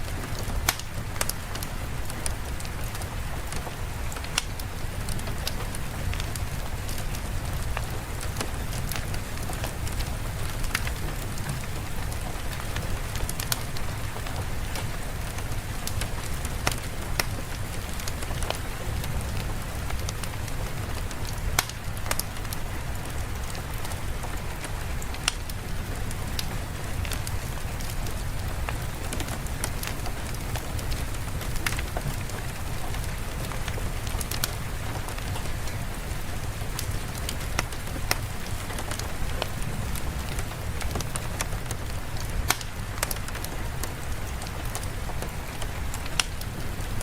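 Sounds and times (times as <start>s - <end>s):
fireplace crackling and popping: 0.0s - 47.0s
steady rain: 0.0s - 47.0s.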